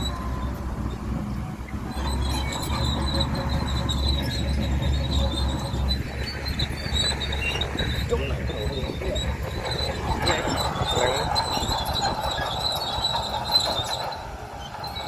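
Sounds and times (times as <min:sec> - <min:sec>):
bulldozer diesel engine rumble: 0:00.0 - 0:15.0
steel tracks squealing: 0:00.0 - 0:15.0.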